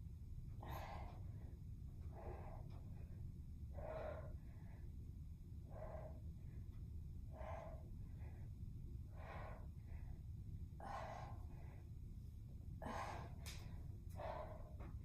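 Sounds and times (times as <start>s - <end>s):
low steady hum: 0.0s - 15.0s
woman breathing hard: 0.5s - 15.0s.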